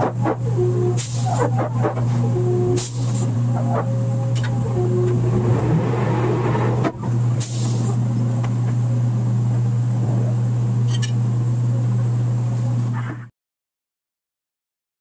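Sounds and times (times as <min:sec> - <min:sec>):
drilling rig machinery drone: 0:00.0 - 0:13.2.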